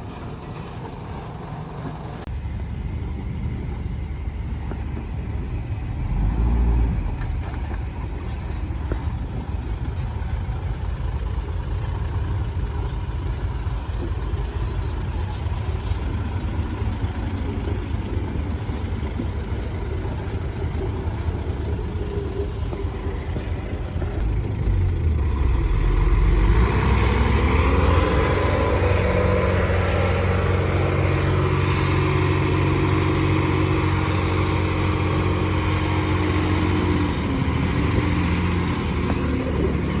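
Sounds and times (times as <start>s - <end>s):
diesel engine rumbling and revving: 0.0s - 40.0s.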